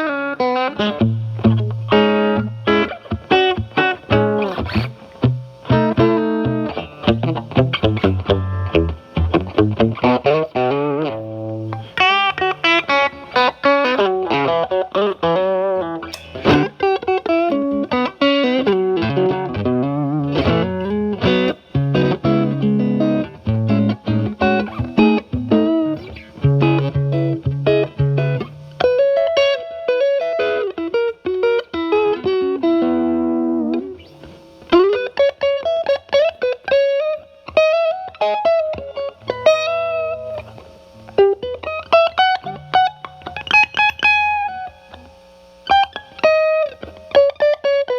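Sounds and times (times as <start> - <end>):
overdriven electric guitar: 0.0 - 47.9.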